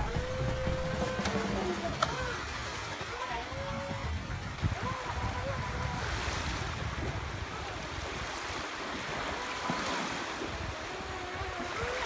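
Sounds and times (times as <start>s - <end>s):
sea waves breaking on shore: 0.0s - 12.0s
wind on microphone: 0.0s - 12.0s.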